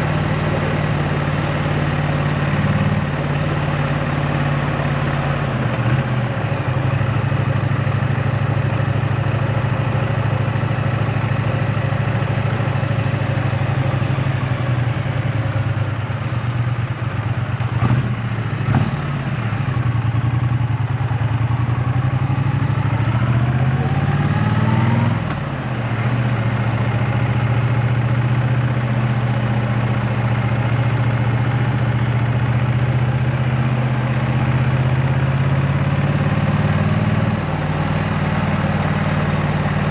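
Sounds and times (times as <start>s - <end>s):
motorcycle engine running while riding: 0.0s - 39.9s.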